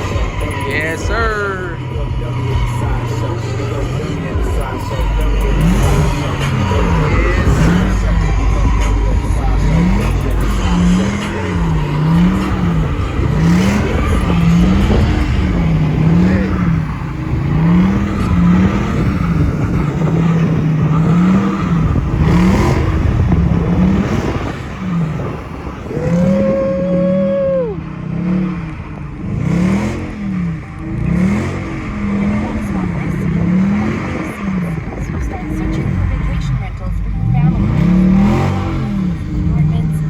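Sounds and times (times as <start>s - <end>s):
car engine revving: 0.0s - 40.0s
high held tone: 0.0s - 40.0s
tire noise: 0.0s - 40.0s.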